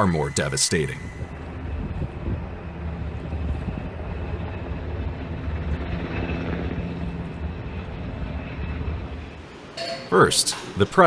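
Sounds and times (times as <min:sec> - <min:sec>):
aircraft engine rumble: 0:00.0 - 0:10.9.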